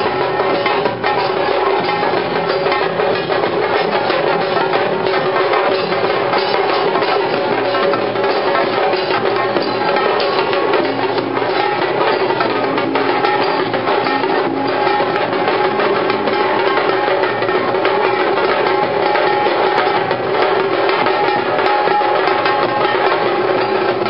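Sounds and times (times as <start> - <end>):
large bass drums beat: 0.0 - 24.0
stick-played drums fast rhythm: 0.0 - 24.0.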